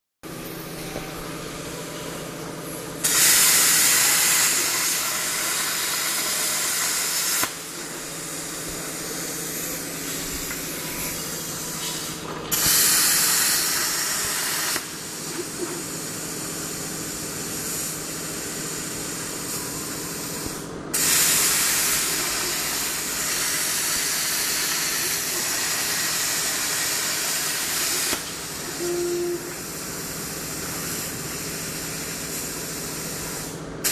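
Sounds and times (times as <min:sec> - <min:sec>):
steady low hum: 0:00.3 - 0:33.8
plasma cutter arc hissing: 0:00.3 - 0:33.9.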